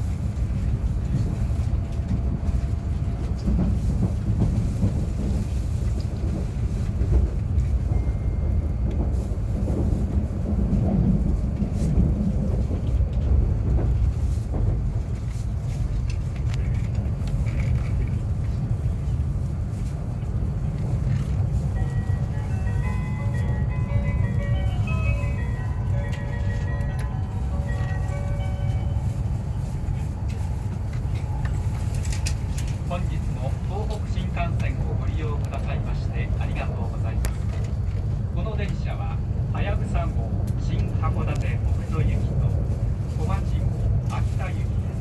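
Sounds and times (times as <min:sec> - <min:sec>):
train low rumble: 0:00.0 - 0:45.0.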